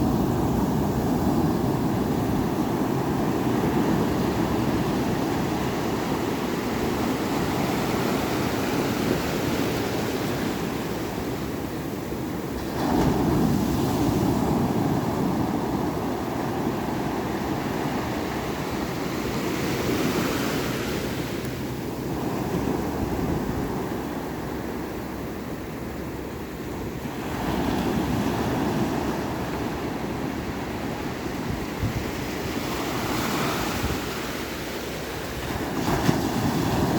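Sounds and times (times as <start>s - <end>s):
wind on microphone: 0.0s - 25.5s, 27.0s - 36.9s
ocean waves breaking on shore: 0.0s - 36.9s.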